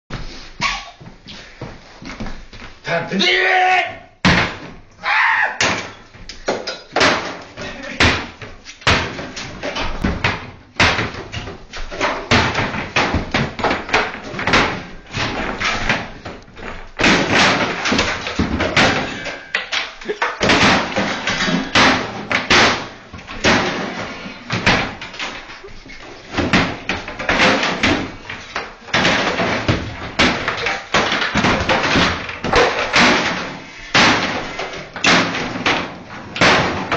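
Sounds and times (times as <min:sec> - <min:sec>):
wooden cabinet banging and crashing: 0:04.2 - 0:05.0, 0:05.6 - 0:36.9.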